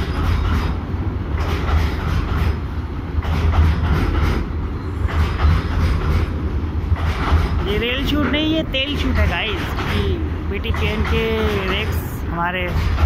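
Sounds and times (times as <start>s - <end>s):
freight train rumbling past: 0.0s - 13.0s
train wheels clattering: 0.0s - 13.0s.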